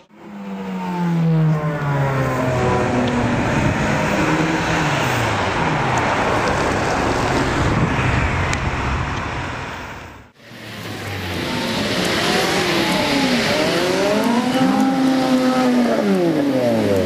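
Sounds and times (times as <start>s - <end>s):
road noise: 0.0s - 17.0s
sports cars revving past: 0.2s - 7.8s, 10.5s - 17.0s.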